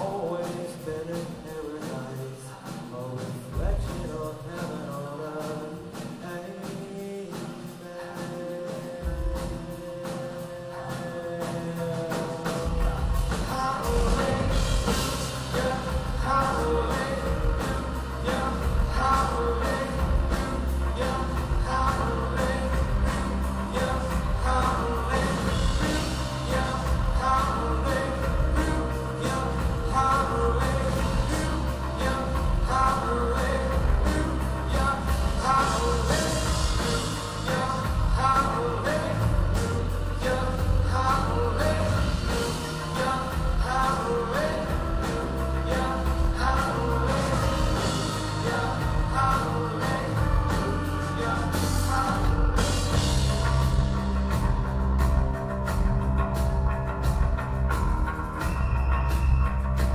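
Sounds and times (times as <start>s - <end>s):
drum beat: 0.0s - 59.9s
music with singing: 0.0s - 59.9s
heavy bass line: 11.8s - 59.9s.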